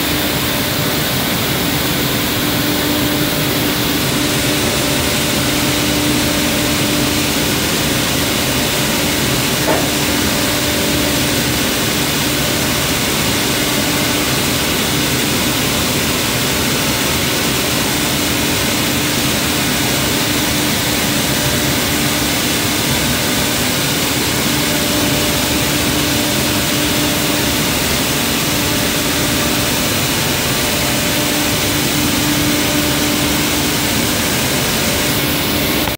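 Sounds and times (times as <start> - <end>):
machinery hissing: 0.0 - 35.9
machinery hum: 0.0 - 35.9.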